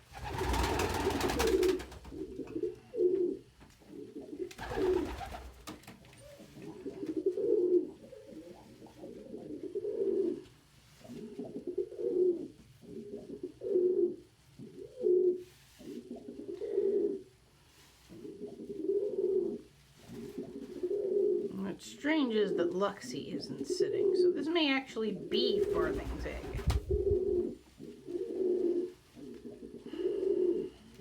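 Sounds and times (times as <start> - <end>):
pigeons cooing: 0.0 - 17.3, 18.0 - 21.6, 25.2 - 31.0.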